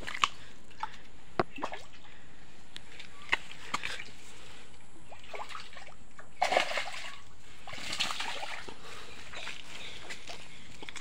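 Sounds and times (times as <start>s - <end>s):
water splashing in creek: 0.0s - 2.2s, 2.9s - 11.0s.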